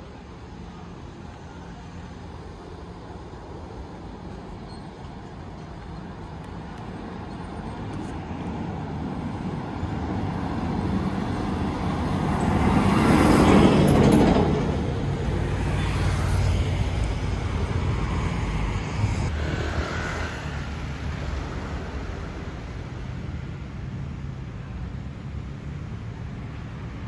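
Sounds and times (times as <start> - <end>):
street traffic: 0.0 - 27.0.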